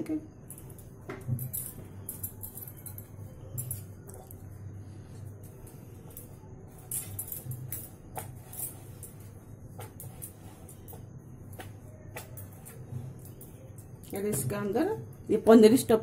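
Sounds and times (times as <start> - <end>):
low steady hum: 0.0 - 16.0
bangles clinking: 0.4 - 15.9.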